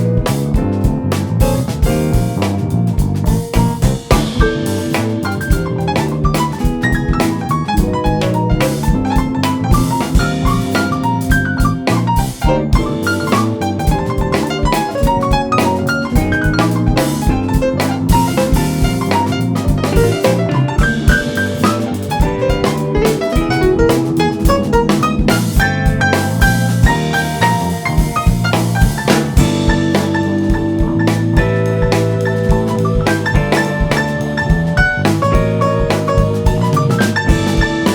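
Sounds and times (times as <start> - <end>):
drum kit beat: 0.0 - 37.9
jazz fusion band playing: 0.0 - 37.9.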